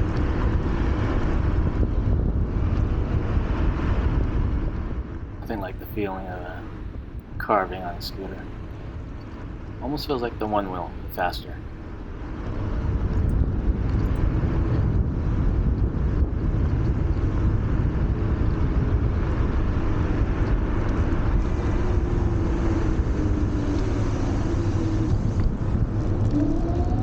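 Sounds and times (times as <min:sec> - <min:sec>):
wind on microphone: 0:00.0 - 0:27.0.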